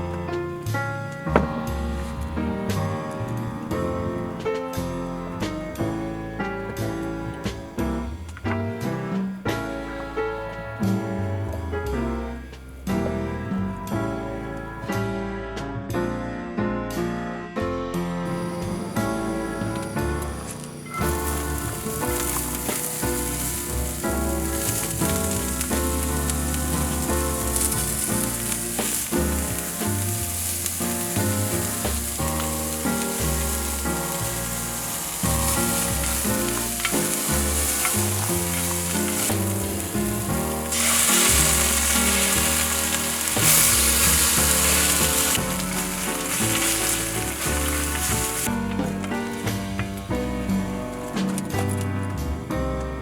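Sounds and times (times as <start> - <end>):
food sizzling in a pan: 0.0 - 11.2, 18.3 - 51.2
background music: 0.0 - 16.2, 18.2 - 53.0.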